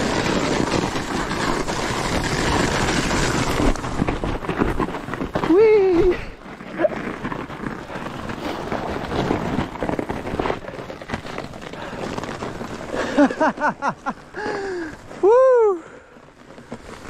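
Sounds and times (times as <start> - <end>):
bike tyres crunching on ice: 0.0 - 17.0.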